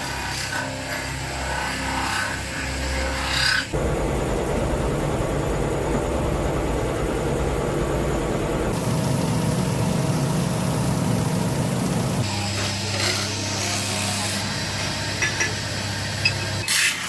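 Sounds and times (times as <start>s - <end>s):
workshop machinery humming: 0.0s - 17.0s.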